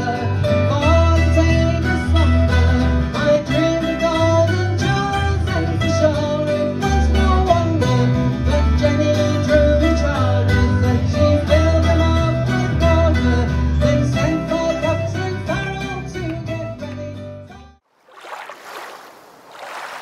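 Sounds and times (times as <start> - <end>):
strummed acoustic guitar: 0.0 - 17.6.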